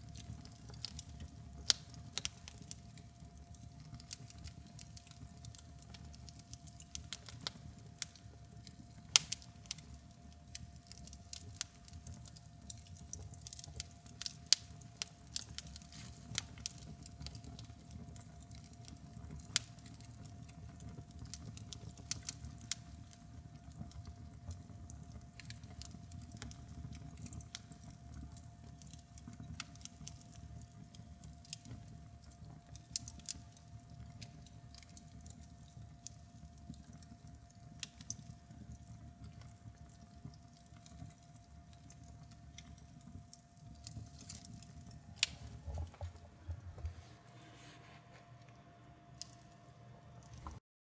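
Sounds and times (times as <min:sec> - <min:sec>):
fire and hot slag crackling: 0:00.0 - 0:48.1.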